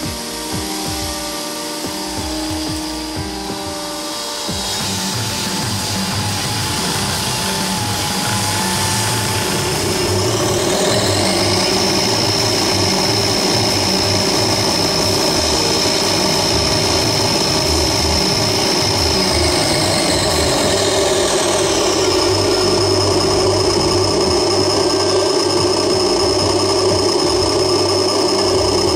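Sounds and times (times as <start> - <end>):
model snow blower motor whining: 0.0 - 28.9.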